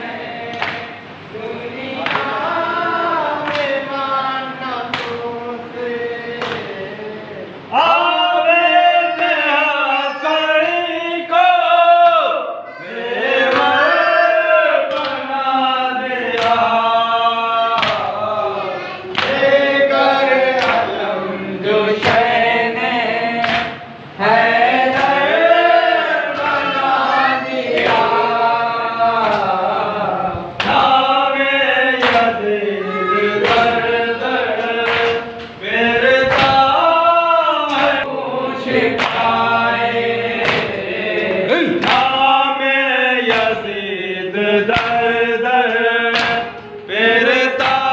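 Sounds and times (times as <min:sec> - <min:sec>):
men chanting in unison: 0:00.0 - 0:47.9.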